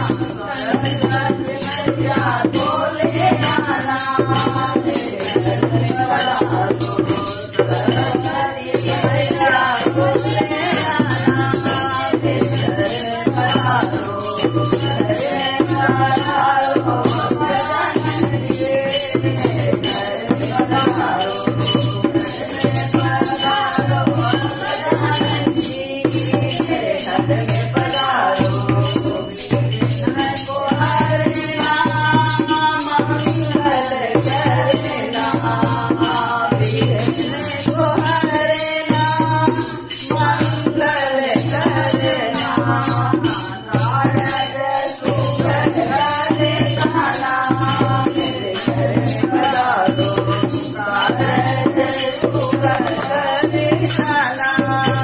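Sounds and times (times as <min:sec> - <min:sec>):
jingling tambourine: 0:00.0 - 0:55.0
women singing in chorus: 0:00.0 - 0:55.0.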